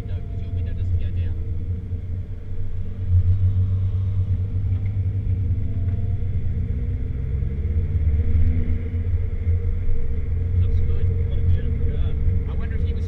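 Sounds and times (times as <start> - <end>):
car engine accelerating: 0.0 - 13.0
road rumble: 0.0 - 13.0.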